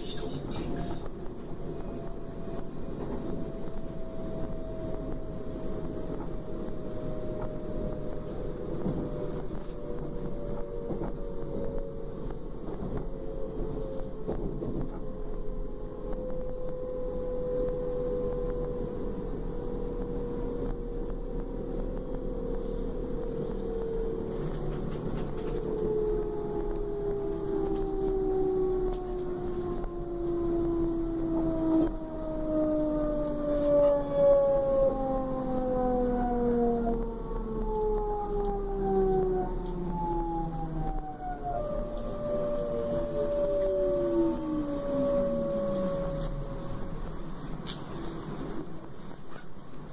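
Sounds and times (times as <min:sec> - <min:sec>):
rolling rumble: 0:00.0 - 0:49.9
train traction drive whine: 0:00.0 - 0:49.9.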